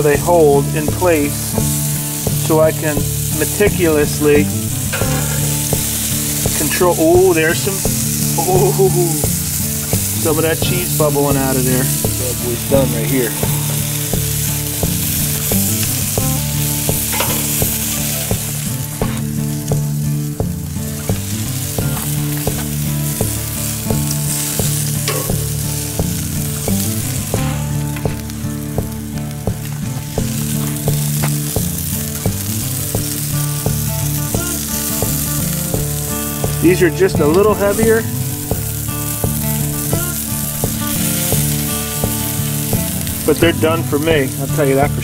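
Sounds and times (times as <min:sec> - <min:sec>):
fat popping and crackling: 0:00.0 - 0:45.0
meat sizzling on a grill: 0:00.0 - 0:45.0.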